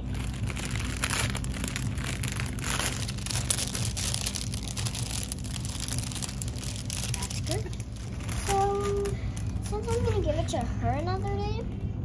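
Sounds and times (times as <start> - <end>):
cellophane bag crinkling: 0.0 - 11.4
steady low hum: 0.0 - 12.0.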